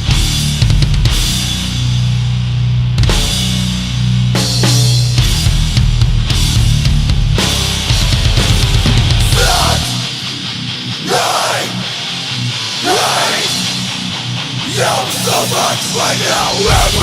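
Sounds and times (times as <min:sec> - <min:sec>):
heavy hardcore music: 0:00.0 - 0:17.0.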